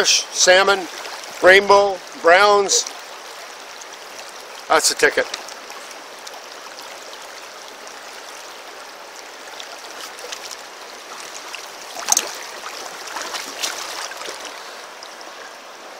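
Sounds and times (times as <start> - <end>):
river water rippling: 0.0 - 15.9.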